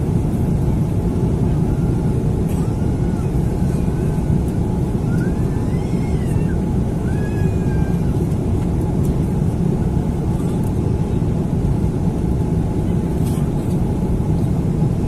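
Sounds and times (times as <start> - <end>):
airplane cabin engine drone: 0.0 - 15.0.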